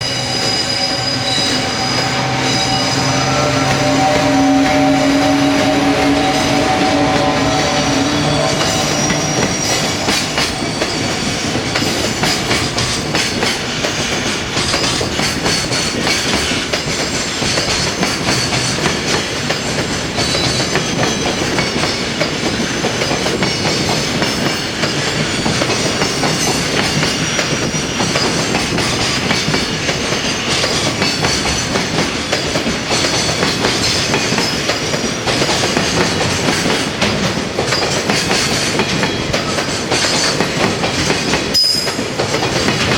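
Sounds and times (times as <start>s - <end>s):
train wheels clickety-clack: 0.0s - 42.9s.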